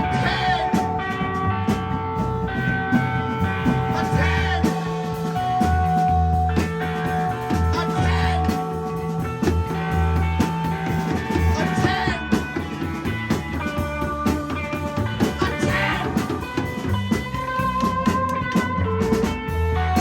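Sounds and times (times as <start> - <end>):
live rock band playing: 0.0 - 20.0
pulsing bass line: 0.0 - 20.0.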